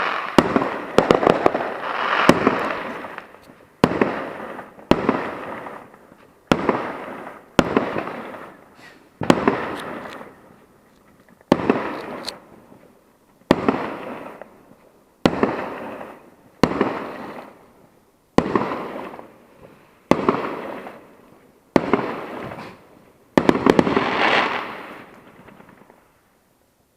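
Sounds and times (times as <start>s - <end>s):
fireworks bangs with crackle: 0.0s - 10.7s, 11.4s - 17.7s, 18.3s - 26.2s.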